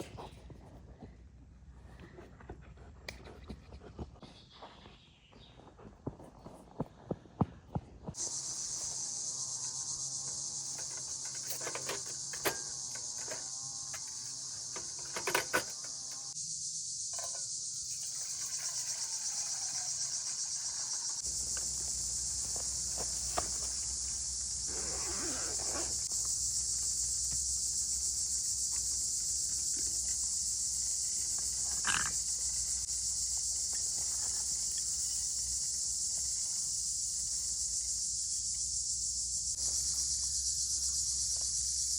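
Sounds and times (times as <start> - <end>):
crickets chirping: 8.0 - 41.9.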